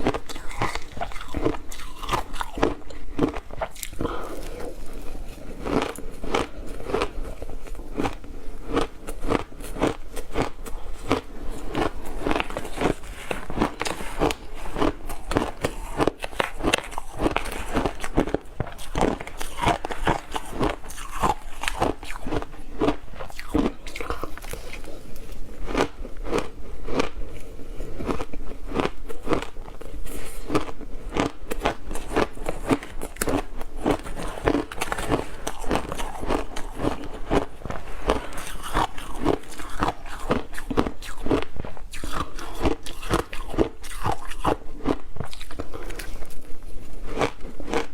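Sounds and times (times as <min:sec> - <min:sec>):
ice crunching while chewed: 0:00.0 - 0:47.9.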